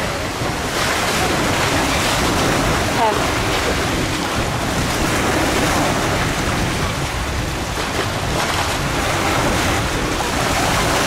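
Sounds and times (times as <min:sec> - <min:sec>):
waves rushing: 0:00.0 - 0:11.0
wind buffeting microphone: 0:00.0 - 0:11.0.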